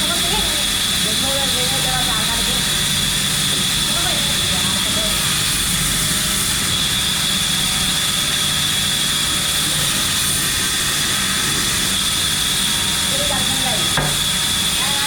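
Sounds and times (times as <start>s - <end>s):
high machine whine: 0.0s - 15.0s
machinery humming: 0.0s - 15.0s.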